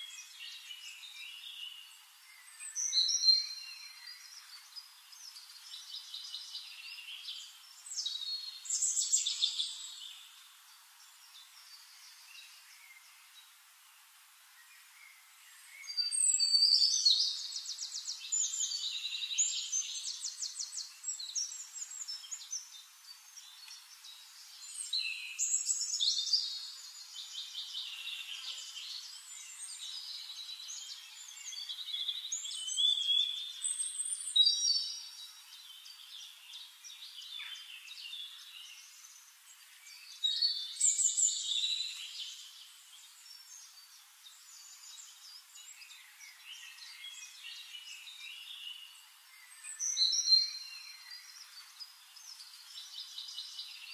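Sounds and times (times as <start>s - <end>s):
songbirds trilling and chirping: 0.0s - 53.9s.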